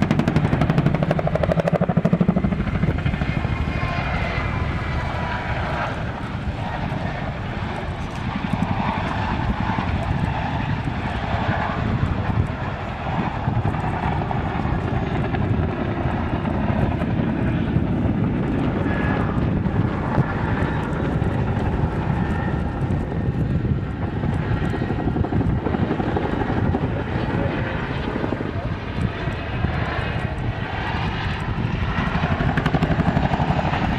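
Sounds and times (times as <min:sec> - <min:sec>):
aircraft engine drone: 0:00.0 - 0:33.9.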